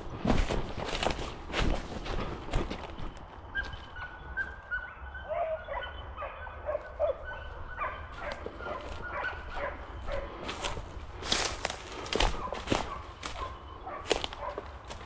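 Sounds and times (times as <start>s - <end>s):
dogs yelping and barking: 2.1s - 11.2s, 12.0s - 15.0s.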